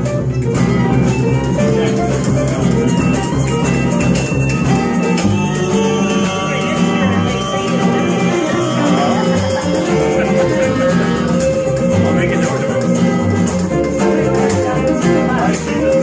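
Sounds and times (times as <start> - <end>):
acoustic guitar: 0.0 - 16.0
hand percussion: 0.0 - 16.0
violin: 0.0 - 16.0.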